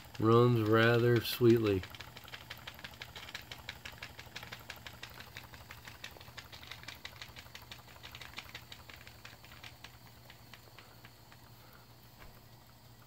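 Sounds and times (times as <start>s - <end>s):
low steady hum: 0.0s - 13.0s
steam engine ticking: 0.0s - 13.0s.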